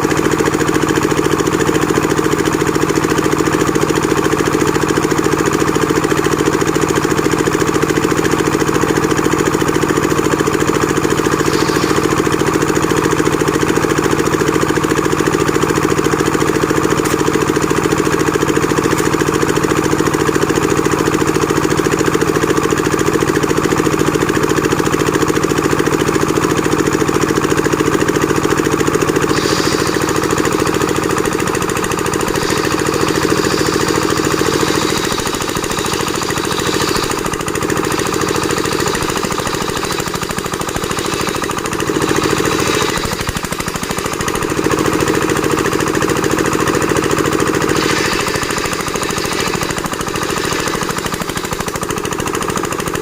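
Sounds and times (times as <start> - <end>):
engine drone: 0.0 - 53.0
fast even machine rattle: 0.0 - 53.0.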